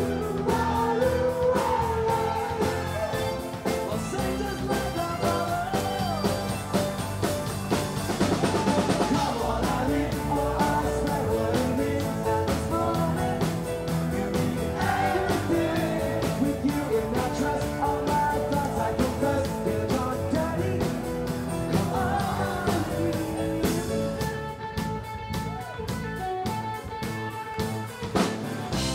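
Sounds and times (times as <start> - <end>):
person singing: 0.0 - 7.0, 8.2 - 24.6
bass guitar: 0.0 - 28.9
drums beating: 0.0 - 28.9
electric guitar: 0.0 - 28.9.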